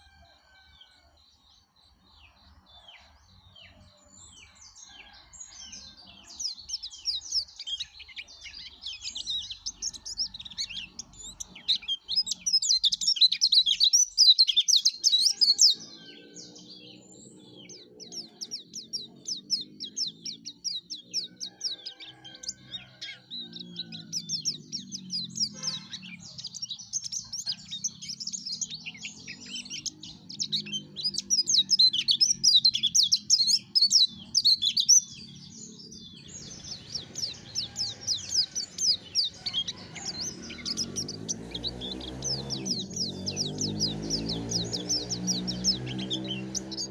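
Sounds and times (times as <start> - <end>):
bird twittering song: 0.0 - 46.9.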